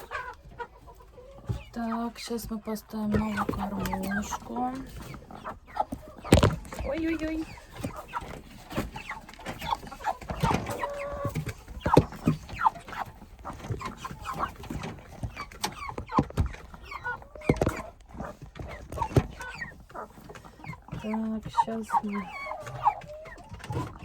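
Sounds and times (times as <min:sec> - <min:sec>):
chickens clucking and cheeping: 0:00.0 - 0:24.0.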